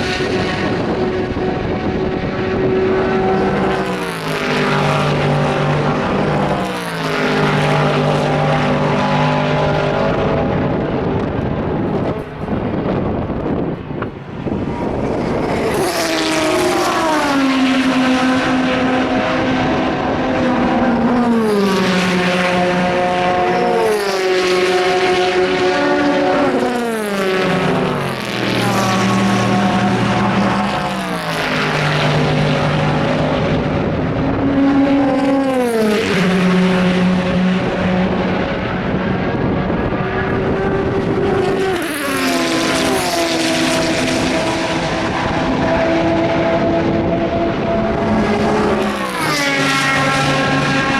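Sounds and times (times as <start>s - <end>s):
racing cars passing at speed: 0.0s - 50.9s.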